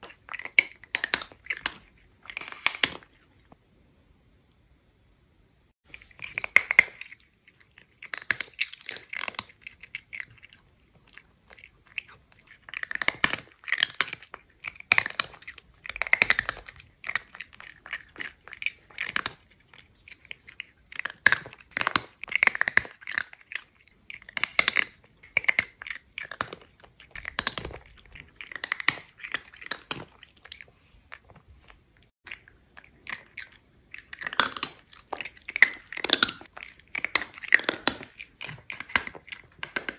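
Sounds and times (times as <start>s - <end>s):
cat crunching dry food: 0.0s - 3.5s, 5.9s - 31.6s, 32.3s - 39.9s.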